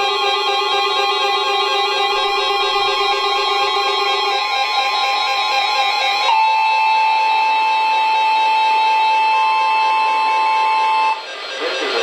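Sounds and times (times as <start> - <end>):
music-like sound: 0.0 - 12.0
two-tone alarm: 0.0 - 12.0.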